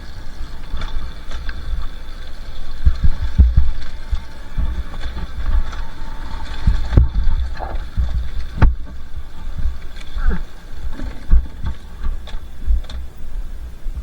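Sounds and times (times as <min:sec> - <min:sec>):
dirt bike engine: 0:00.0 - 0:14.0
wind rumble on microphone: 0:00.0 - 0:14.0.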